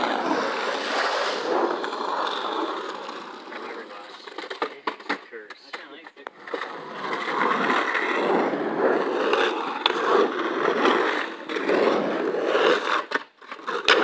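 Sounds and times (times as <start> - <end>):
skateboard wheels rolling and grinding: 0.0 - 14.0.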